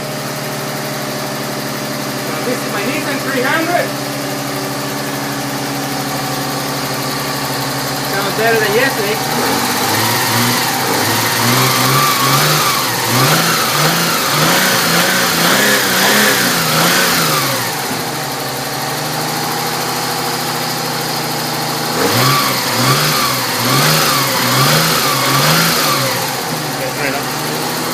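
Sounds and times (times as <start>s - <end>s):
car engine idling: 0.0s - 27.9s
car engine revving: 0.0s - 27.9s.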